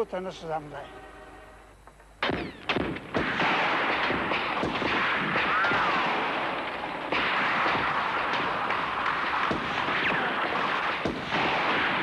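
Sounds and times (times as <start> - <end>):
gunfire: 2.2 - 12.0.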